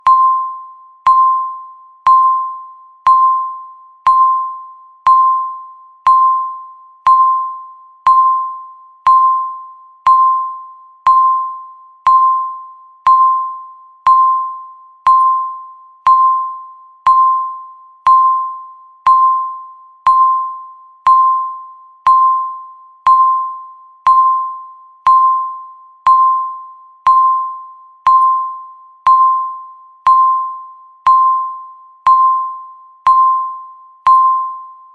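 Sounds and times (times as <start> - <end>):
countdown timer beeps: 0.0 - 34.9.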